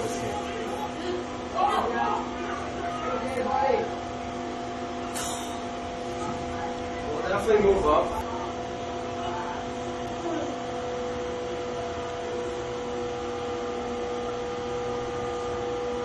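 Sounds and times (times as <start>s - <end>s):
machine hum with held tones: 0.0s - 16.0s.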